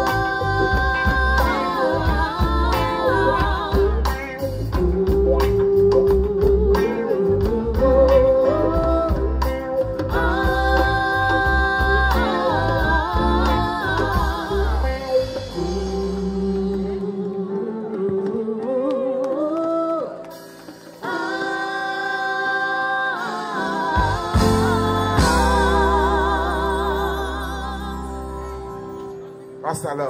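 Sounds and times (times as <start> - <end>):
bass guitar: 0.0 - 18.4, 23.8 - 29.6
women singing with vibrato: 0.0 - 29.4
live reggae band: 0.0 - 30.0.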